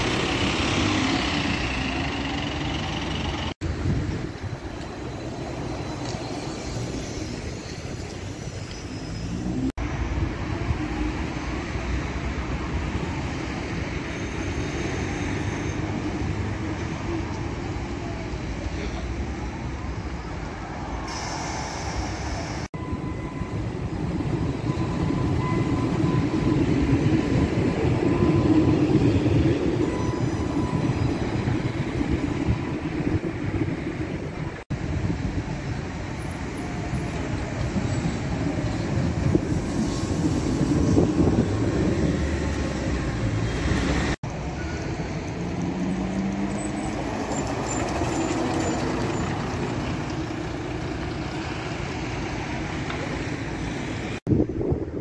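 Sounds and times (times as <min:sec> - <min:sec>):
trolleybus electric whine: 0:00.0 - 0:21.2, 0:22.3 - 0:55.0
bus pulling away: 0:00.0 - 0:54.2
tram rolling on rails: 0:00.0 - 0:55.0.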